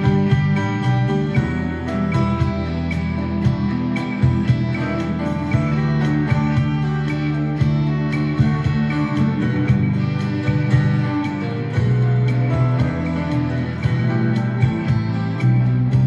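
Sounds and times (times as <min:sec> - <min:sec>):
bass line: 0:00.0 - 0:16.0
electric guitar ballad solo: 0:00.0 - 0:16.0
light beat: 0:00.0 - 0:16.0.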